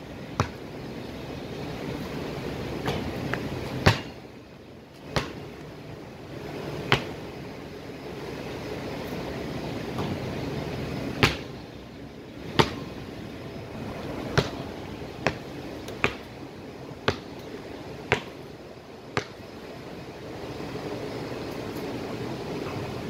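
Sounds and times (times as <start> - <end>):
rushing wind or ventilation: 0.0 - 23.0.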